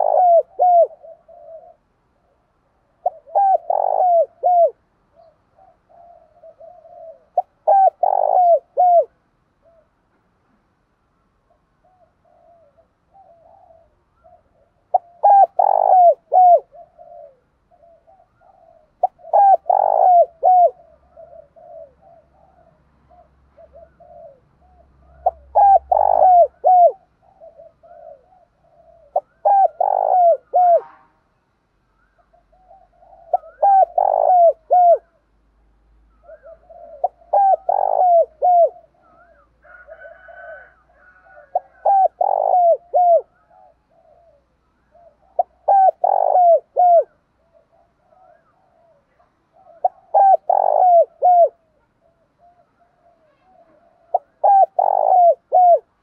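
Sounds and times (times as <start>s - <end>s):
dove cooing: 0.0s - 10.1s, 11.4s - 31.0s, 32.0s - 35.3s, 36.1s - 56.0s
soft low dove coos: 0.0s - 10.3s, 11.4s - 31.0s, 32.0s - 35.3s, 35.9s - 56.0s.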